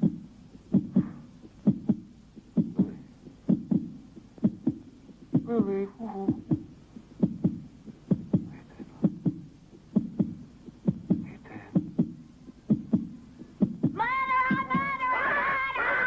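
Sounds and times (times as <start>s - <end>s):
heartbeat thumps: 0.0s - 15.7s.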